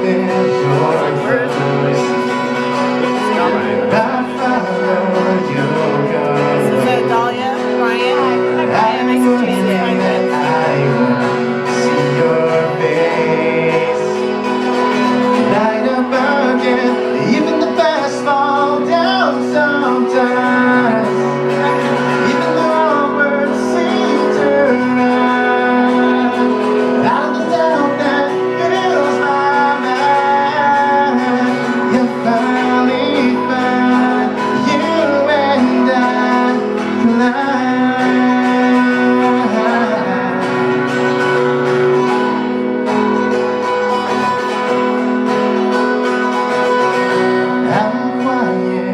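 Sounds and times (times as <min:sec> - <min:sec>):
acoustic guitar: 0:00.0 - 0:48.9
person singing: 0:00.0 - 0:48.9.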